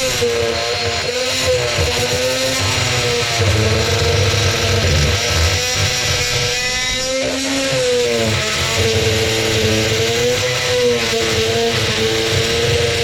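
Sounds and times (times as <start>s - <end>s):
power tool motor cutting nut: 0.0s - 13.0s.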